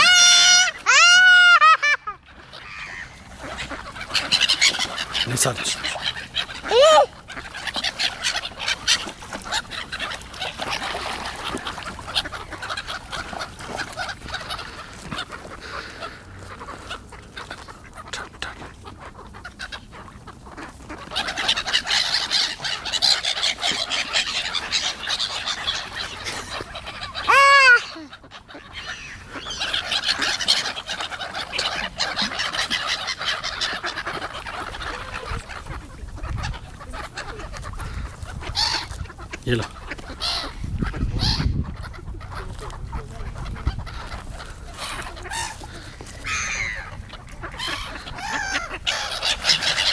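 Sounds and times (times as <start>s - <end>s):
loud close gull call: 0.0s - 17.0s, 20.9s - 49.9s
gulls calling: 0.0s - 49.9s.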